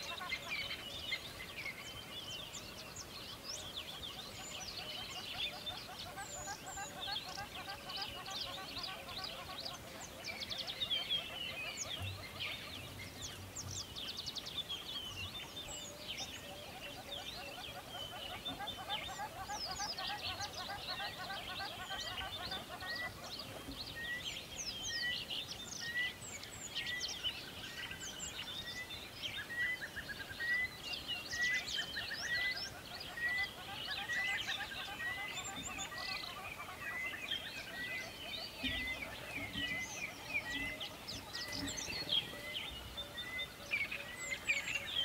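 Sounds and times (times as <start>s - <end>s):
birds chirping and twittering: 0.0s - 45.0s.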